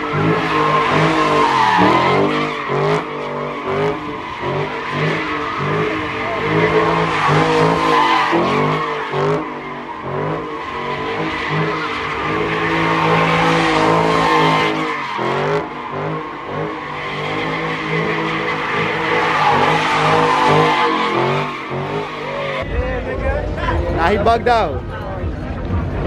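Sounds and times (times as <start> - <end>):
tyres squealing: 0.0 - 22.6
car engine revving high: 0.0 - 22.7.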